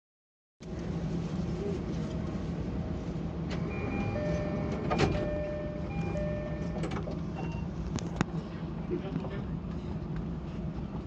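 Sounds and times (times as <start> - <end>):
train cab rumble: 0.7 - 11.0.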